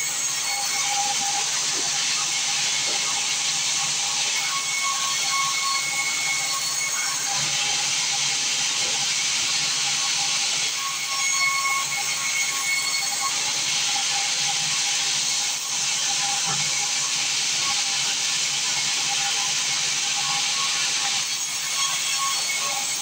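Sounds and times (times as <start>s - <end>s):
saw cutting through timber: 0.0s - 23.0s.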